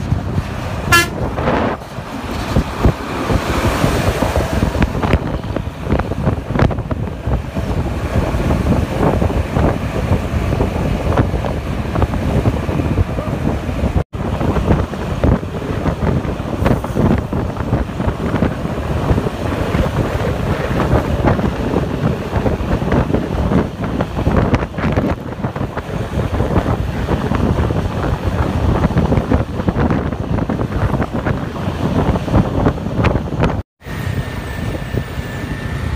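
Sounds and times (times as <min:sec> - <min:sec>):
vehicle rumble: 0:00.0 - 0:35.9
wind buffeting microphone: 0:00.0 - 0:35.9.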